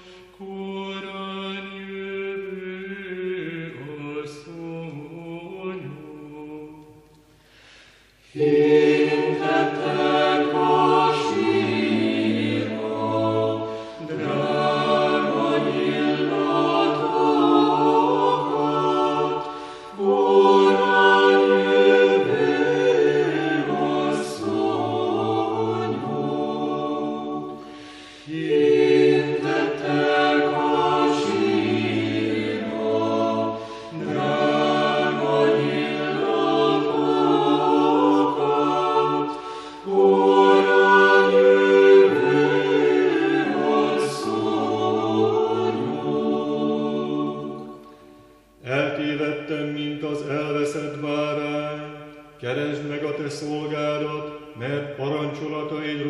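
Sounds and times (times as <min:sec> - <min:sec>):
choir singing a cappella chant: 0:00.0 - 0:56.0.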